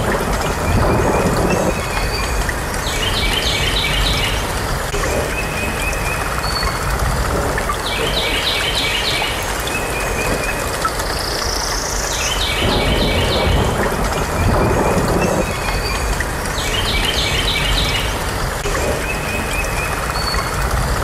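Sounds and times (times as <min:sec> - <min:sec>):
low outdoor rumble: 0:00.0 - 0:08.8, 0:09.4 - 0:21.0.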